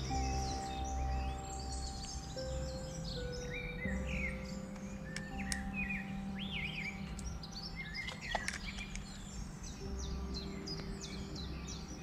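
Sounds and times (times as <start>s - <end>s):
birds singing and chirping: 0.0s - 12.0s.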